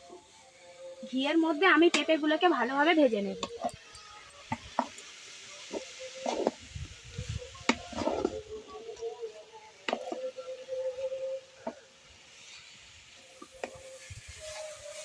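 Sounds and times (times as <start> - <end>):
fruit sizzling in oil: 0.0 - 15.0.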